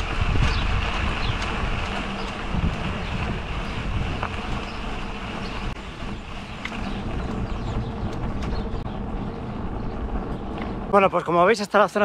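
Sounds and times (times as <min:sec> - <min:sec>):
bicycle clicks and rattles: 0:00.0 - 0:10.8
wind and tyre noise: 0:00.0 - 0:12.0.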